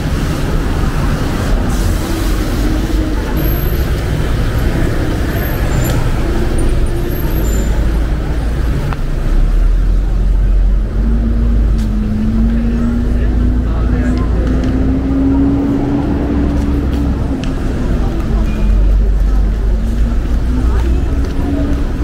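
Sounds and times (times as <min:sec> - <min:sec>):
traffic on wet road: 0:00.0 - 0:22.0.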